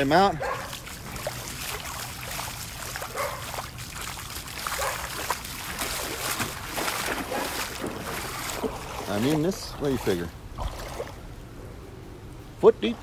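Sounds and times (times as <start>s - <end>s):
footsteps splashing through water: 0.0s - 11.2s.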